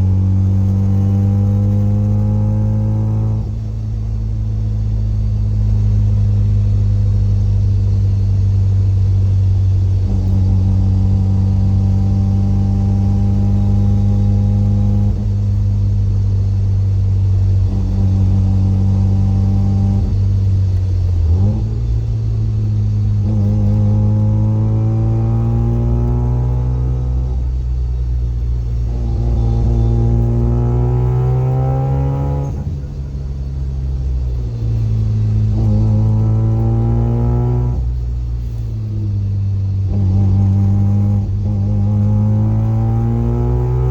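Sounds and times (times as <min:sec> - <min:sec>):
car exhaust drone: 0:00.0 - 0:43.9
differential gear whine: 0:00.0 - 0:43.9.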